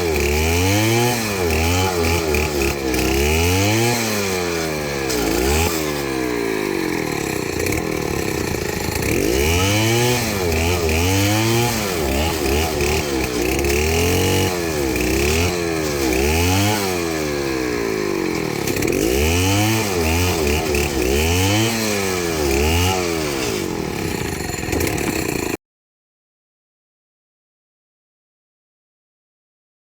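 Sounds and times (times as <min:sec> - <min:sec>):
chainsaw cutting wood: 0:00.0 - 0:25.6.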